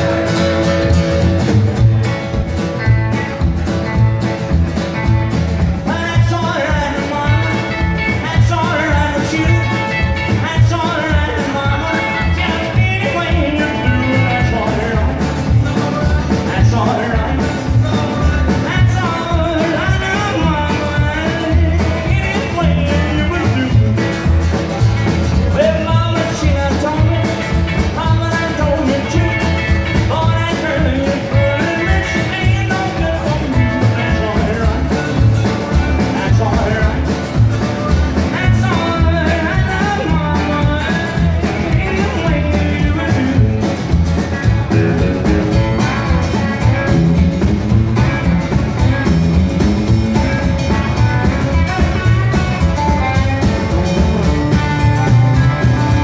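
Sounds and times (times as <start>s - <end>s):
acoustic guitar: 0.0s - 56.0s
drum kit: 0.0s - 56.0s
electric guitar: 0.0s - 56.0s
upright double bass: 0.0s - 56.0s
man singing lead: 5.6s - 56.0s.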